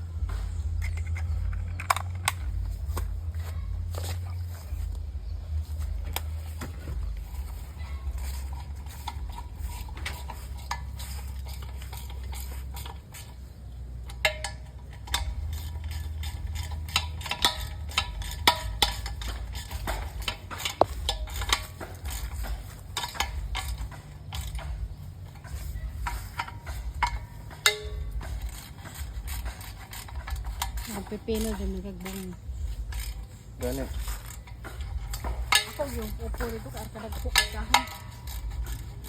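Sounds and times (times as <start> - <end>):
steady low rumble: 0.0 - 39.0
clicks of hard objects handled: 0.2 - 39.0.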